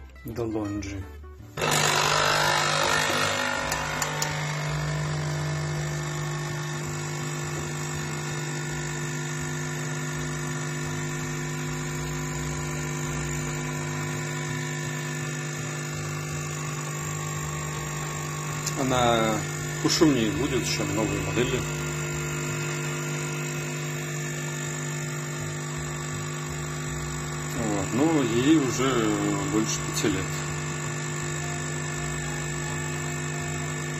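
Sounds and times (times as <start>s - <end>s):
coffee machine pump hum: 1.6s - 33.9s.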